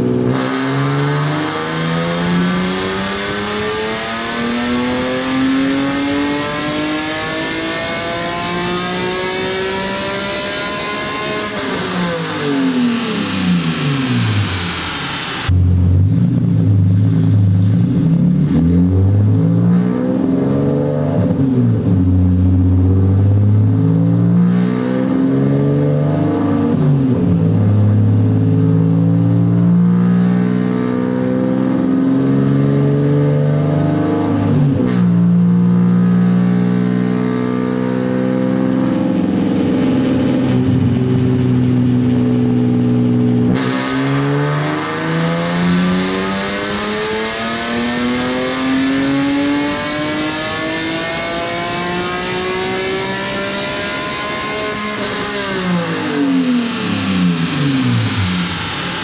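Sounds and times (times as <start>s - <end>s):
car engine revving loud: 0.0s - 59.0s.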